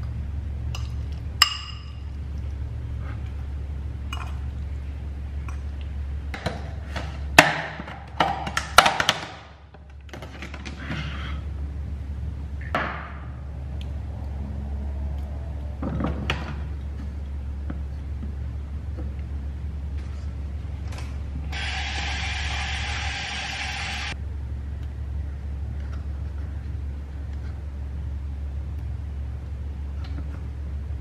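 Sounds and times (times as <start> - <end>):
steady low hum: 0.0 - 8.6, 9.5 - 31.0.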